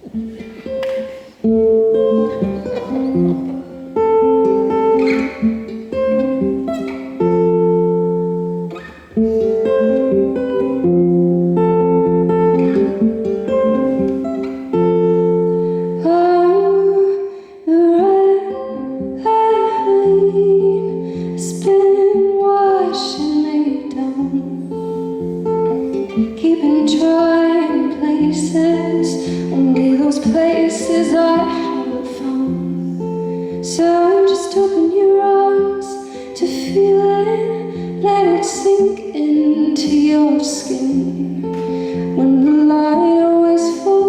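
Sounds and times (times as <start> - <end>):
acoustic guitar strumming chords: 0.0 - 44.0.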